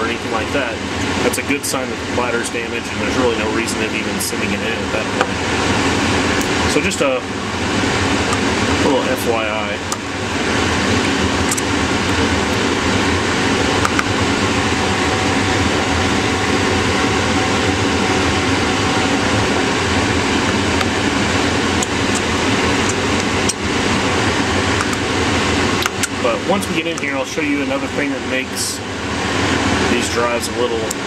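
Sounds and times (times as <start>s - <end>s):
fan-like hum and hiss: 0.0s - 31.0s.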